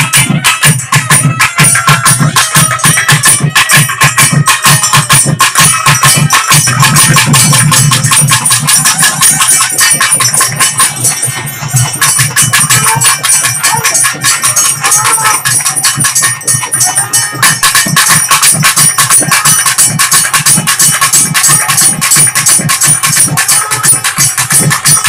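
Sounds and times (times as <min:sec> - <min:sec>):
loud fast traditional drumming: 0:00.0 - 0:25.0.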